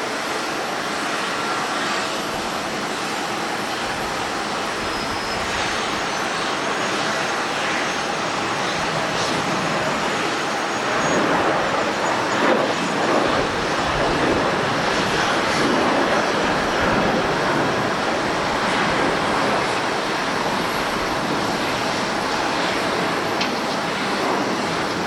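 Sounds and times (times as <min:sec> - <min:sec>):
jet engines rushing with whine: 0:00.0 - 0:25.0.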